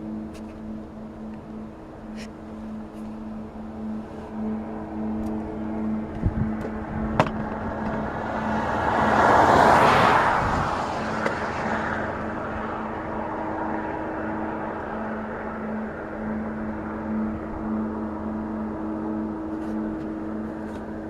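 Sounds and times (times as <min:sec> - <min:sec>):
low hum of two tones: 0:00.0 - 0:21.0
motor vehicle passing by: 0:00.0 - 0:21.0.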